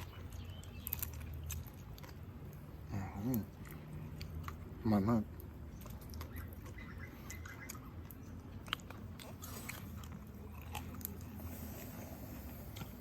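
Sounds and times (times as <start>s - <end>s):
low steady hum: 0.0s - 13.0s
person chewing: 0.0s - 13.0s.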